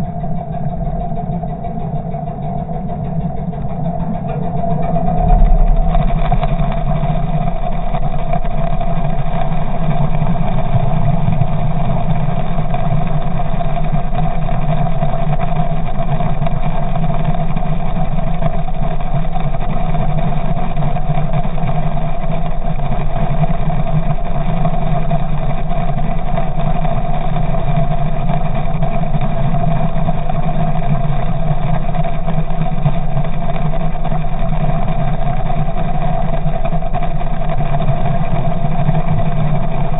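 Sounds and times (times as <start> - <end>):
outboard motor droning underwater: 0.0 - 39.9.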